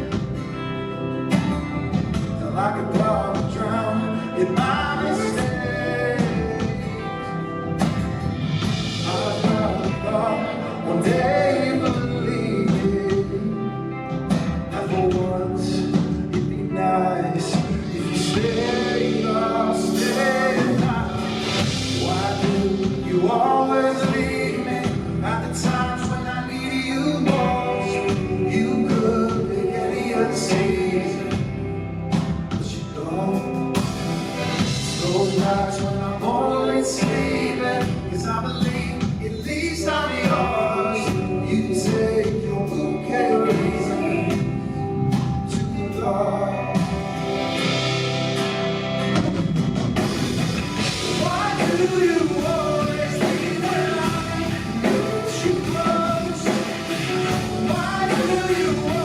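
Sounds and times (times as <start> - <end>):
person singing lead vocal: 0.0 - 48.6, 50.5 - 59.0
live band playing: 0.0 - 59.0.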